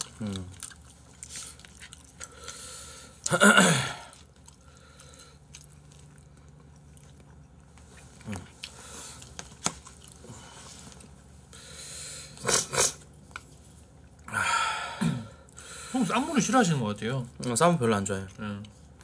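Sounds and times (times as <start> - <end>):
people chewing: 0.0 - 19.0.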